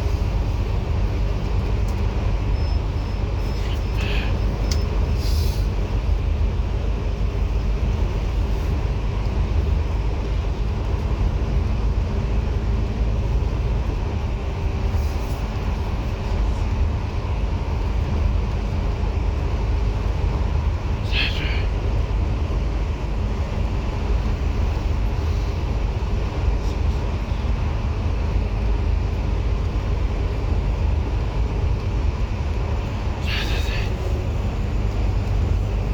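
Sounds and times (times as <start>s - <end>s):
bus engine rumble: 0.0s - 35.9s
road noise: 0.0s - 35.9s.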